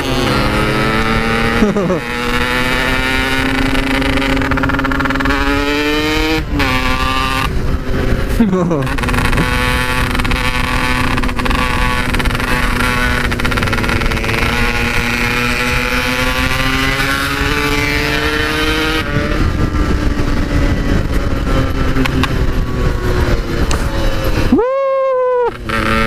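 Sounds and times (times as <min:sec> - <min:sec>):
two-stroke motorcycle engine: 0:00.0 - 0:24.6, 0:25.5 - 0:26.0.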